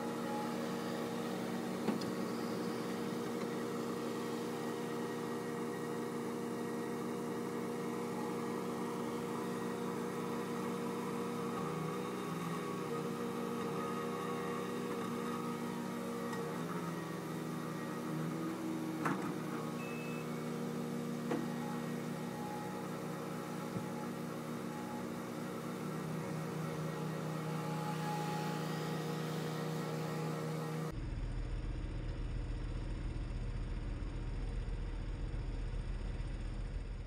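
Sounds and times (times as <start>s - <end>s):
loader engine running: 0.0s - 37.0s.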